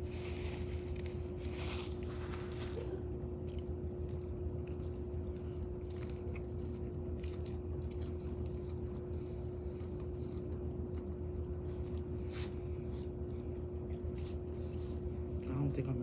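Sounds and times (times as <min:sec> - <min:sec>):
person chewing meat: 0:00.0 - 0:15.5
steady low hum: 0:00.0 - 0:16.0.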